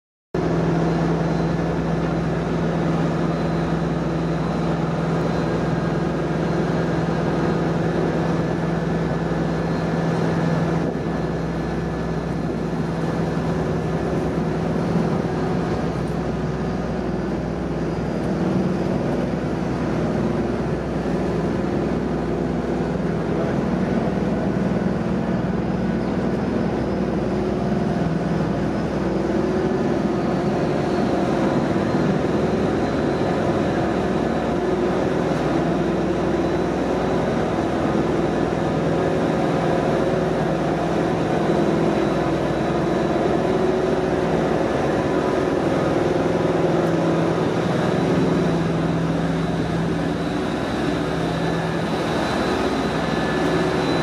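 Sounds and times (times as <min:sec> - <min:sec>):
ferry diesel engines droning: 0:00.4 - 0:54.0.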